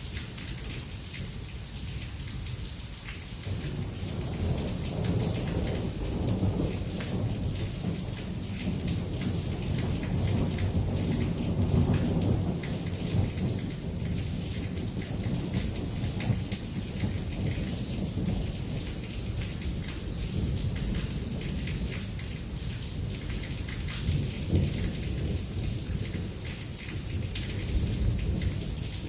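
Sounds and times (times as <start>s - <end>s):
heavy rain pouring: 0.0s - 29.0s
thunder rumbling: 3.5s - 23.4s, 24.0s - 29.0s.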